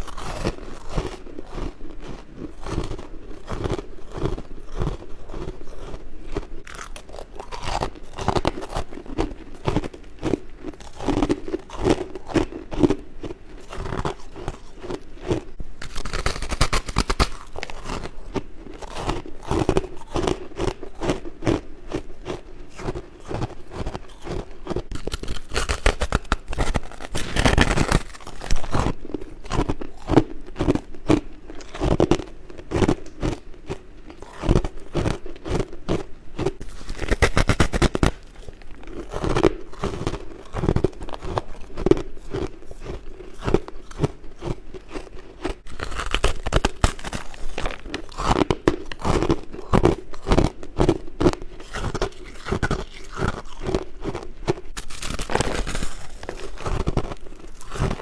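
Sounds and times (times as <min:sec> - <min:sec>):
crunching frost: 0:00.0 - 0:58.0.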